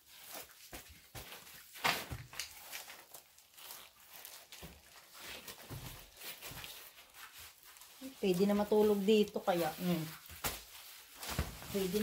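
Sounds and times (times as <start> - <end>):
foam mats handled: 0.0 - 12.0.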